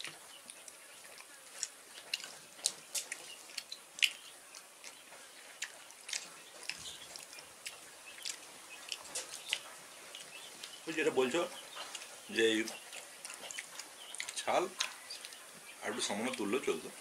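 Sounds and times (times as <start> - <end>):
wet clicks and ticks: 0.0 - 15.5, 16.2 - 16.6
people chewing food: 0.0 - 17.0.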